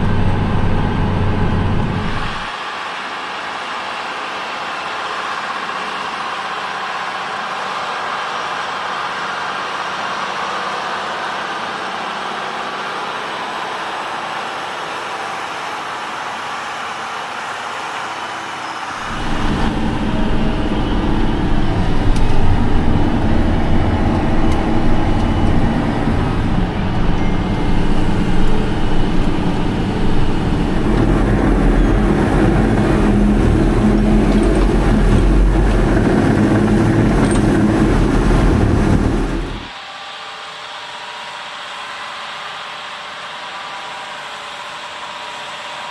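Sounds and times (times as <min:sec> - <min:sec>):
big diesel engine running: 0:00.0 - 0:39.8.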